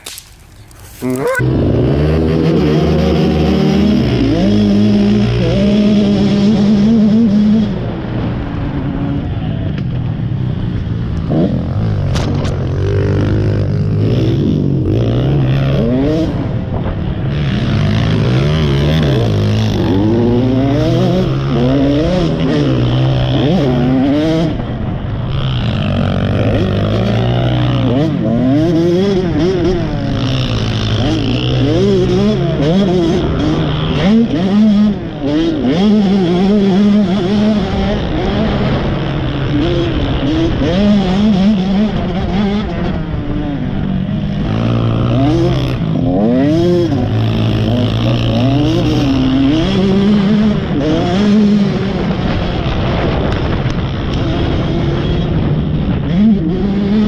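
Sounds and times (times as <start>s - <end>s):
motocross bike engine revving: 0.0s - 9.6s, 10.3s - 57.0s.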